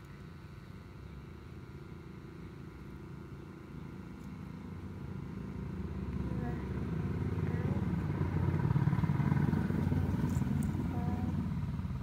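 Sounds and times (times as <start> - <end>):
engine running with rapid pulsing: 0.0 - 12.0.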